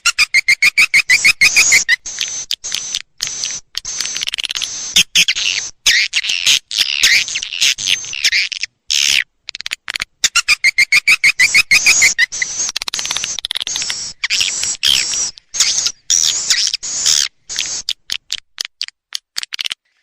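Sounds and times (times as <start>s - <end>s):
swiftlets twittering and chirping: 0.0s - 9.2s, 10.2s - 18.7s.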